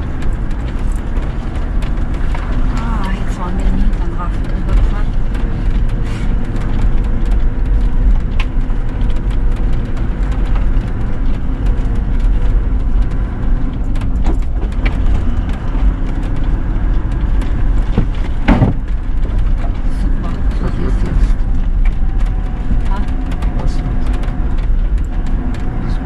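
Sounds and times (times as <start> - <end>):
knocks and rattles over bumps: 0.0 - 26.0
vehicle engine and road rumble: 0.0 - 26.0.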